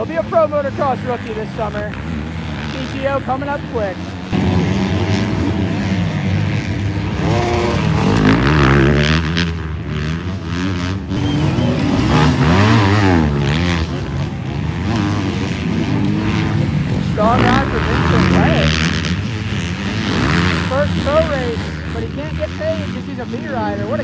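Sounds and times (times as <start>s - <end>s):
motocross bike engines revving: 0.0s - 24.0s.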